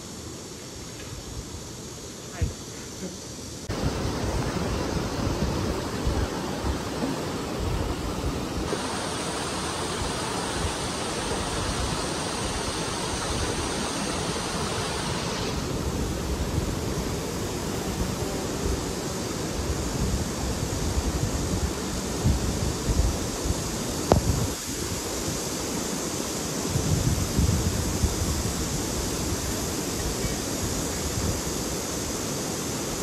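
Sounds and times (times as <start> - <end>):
water rushing over weir: 1.4 - 33.0
wind rumble on microphone: 3.7 - 9.0, 9.9 - 25.9, 26.6 - 32.2.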